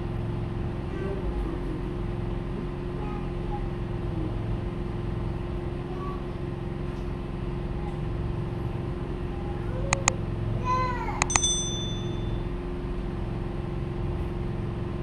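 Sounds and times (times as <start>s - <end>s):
machine droning with hum: 0.0s - 15.0s.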